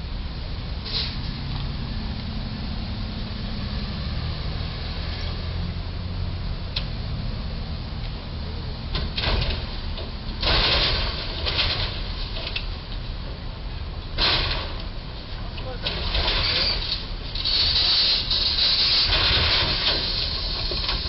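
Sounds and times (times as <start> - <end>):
engine-like rumble and hiss: 0.0 - 21.0.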